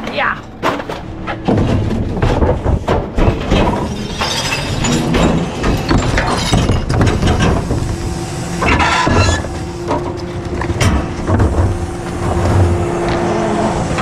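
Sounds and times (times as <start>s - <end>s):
garbage compactor crushing trash: 0.0s - 14.0s.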